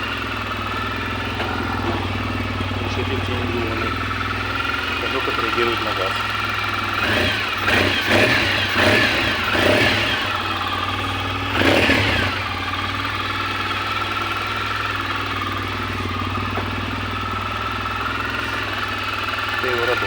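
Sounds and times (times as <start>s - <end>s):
motorcycle engine revving and idling: 0.0s - 20.0s.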